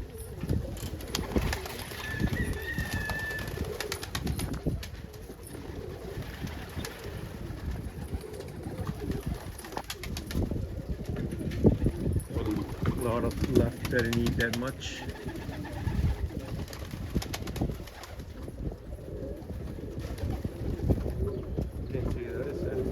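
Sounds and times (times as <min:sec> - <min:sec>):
pigeons cooing: 0:00.0 - 0:22.9.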